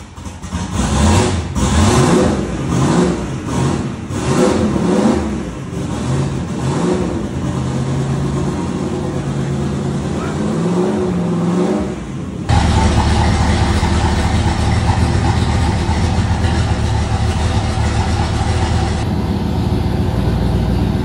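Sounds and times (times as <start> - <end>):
car engine revving and idling: 0.0 - 21.0.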